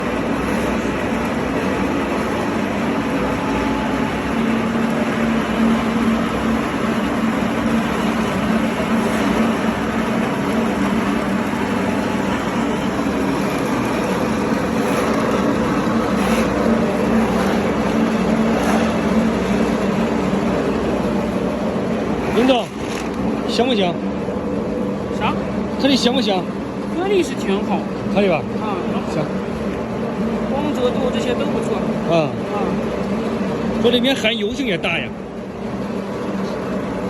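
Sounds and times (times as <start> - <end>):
pellet mill mechanical drone: 0.0 - 37.0.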